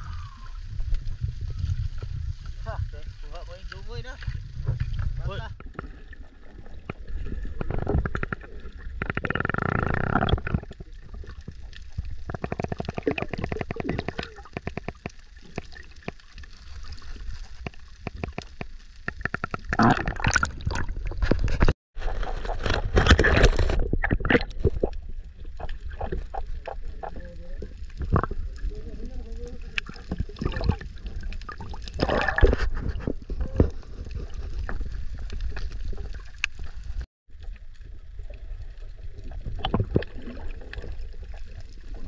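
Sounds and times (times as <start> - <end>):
underwater clicks and crackles: 0.0 - 42.0
water gurgling and bubbling: 4.0 - 42.0.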